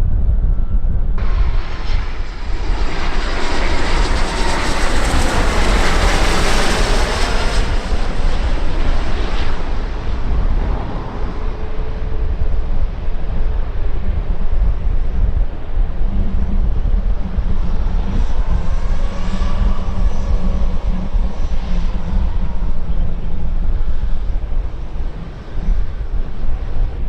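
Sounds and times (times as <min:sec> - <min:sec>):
steady low rumble: 0:00.0 - 0:27.0
jet engines passing by: 0:01.2 - 0:27.0.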